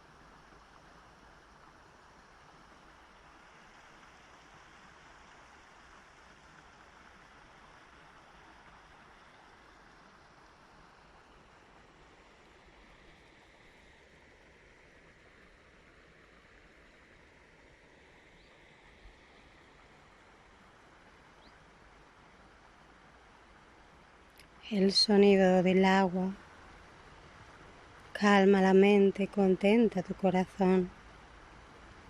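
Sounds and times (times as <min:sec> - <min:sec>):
stream babbling: 0:00.0 - 0:32.0.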